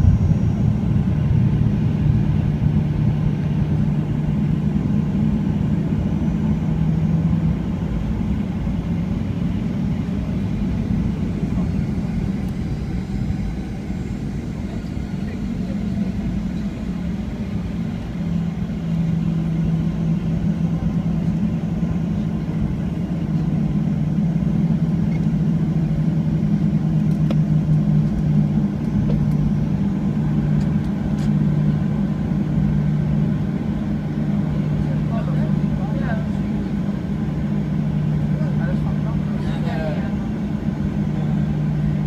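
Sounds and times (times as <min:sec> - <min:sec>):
jet engines droning from cabin: 0:00.0 - 0:42.0.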